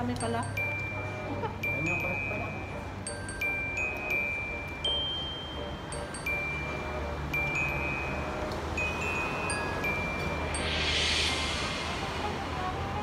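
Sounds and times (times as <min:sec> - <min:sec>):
wind chimes ringing: 0:00.0 - 0:11.8.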